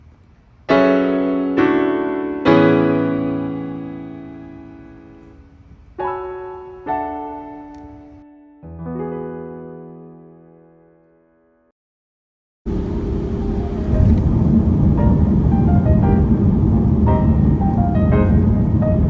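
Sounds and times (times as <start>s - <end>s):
slow piano chords: 0.0s - 11.7s, 12.7s - 19.0s.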